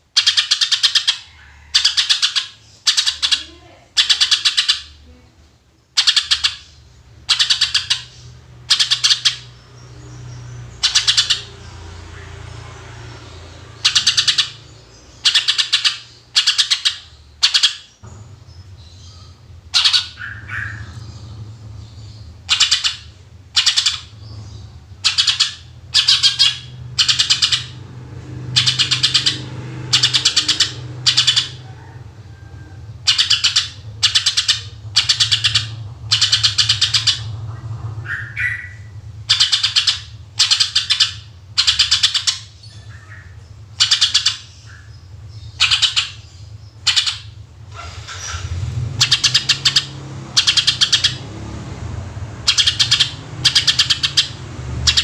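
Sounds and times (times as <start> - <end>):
steady low hum: 4.8 - 55.0.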